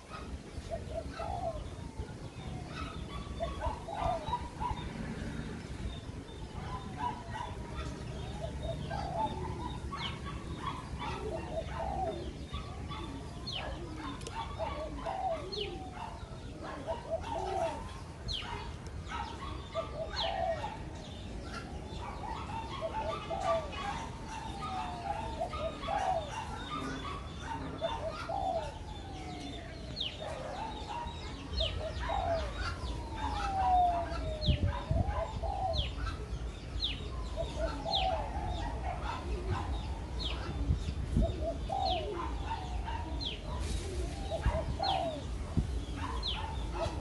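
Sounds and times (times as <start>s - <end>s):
dove cooing: 0.0s - 47.0s
long falling bird calls: 0.0s - 47.0s.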